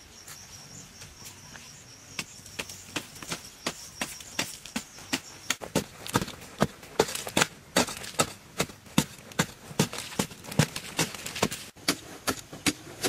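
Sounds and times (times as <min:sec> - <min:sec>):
digging tool striking dry soil: 0:02.1 - 0:13.0.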